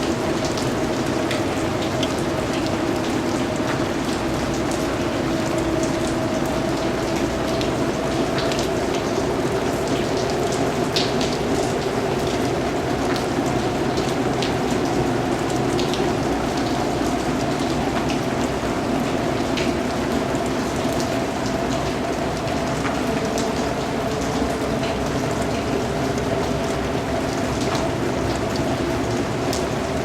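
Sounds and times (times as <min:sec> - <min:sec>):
raindrops ticking: 0:00.0 - 0:30.0
steady rain falling: 0:00.0 - 0:30.0.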